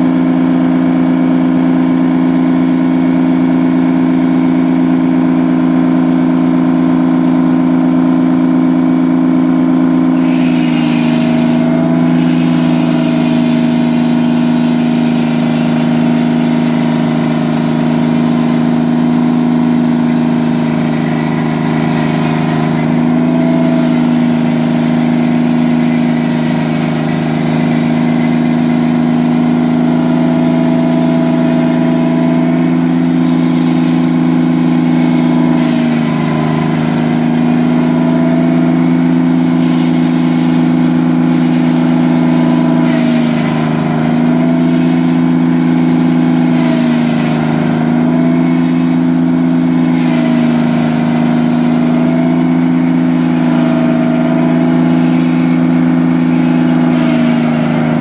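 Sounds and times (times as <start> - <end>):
sawmill sawing a log: 0.0 - 58.0.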